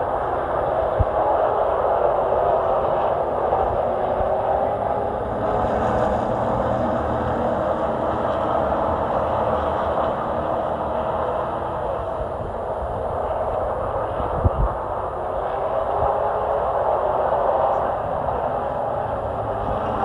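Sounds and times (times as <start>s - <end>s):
race truck engine and road noise: 2.7s - 20.0s.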